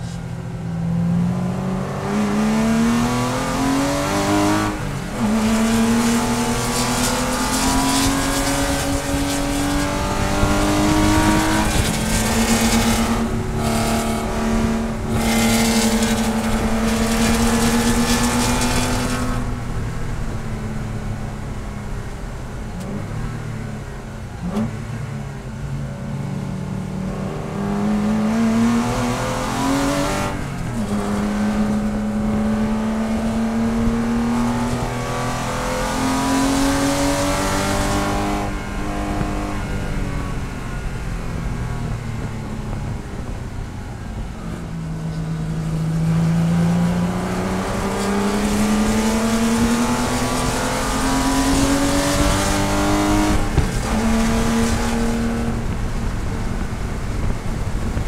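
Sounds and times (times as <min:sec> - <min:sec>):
race car engine revving: 0:00.8 - 0:20.3, 0:26.3 - 0:40.9, 0:43.8 - 0:58.0.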